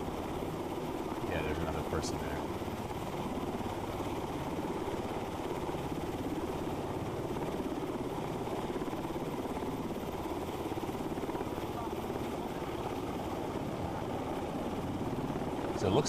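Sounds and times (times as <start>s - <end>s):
helicopter engine whine: 0.0s - 16.0s
helicopter rotor beating: 0.0s - 16.0s.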